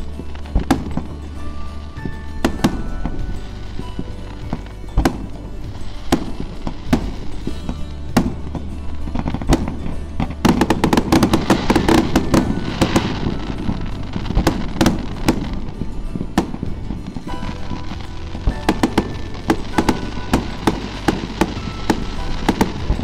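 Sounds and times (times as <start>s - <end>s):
fireworks bangs and crackling: 0.0s - 23.0s.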